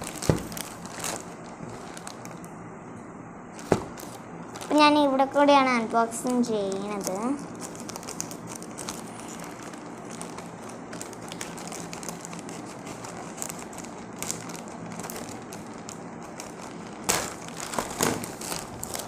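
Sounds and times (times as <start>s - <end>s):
plastic rustling: 0.0s - 2.6s, 3.5s - 19.0s.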